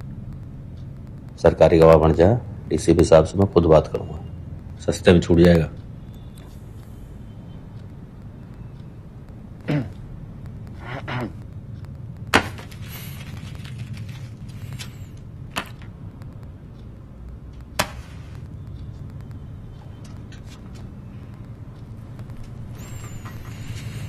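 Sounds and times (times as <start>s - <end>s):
sharp clicks: 0.0s - 2.2s, 4.2s - 24.0s
low room hum: 0.0s - 24.0s.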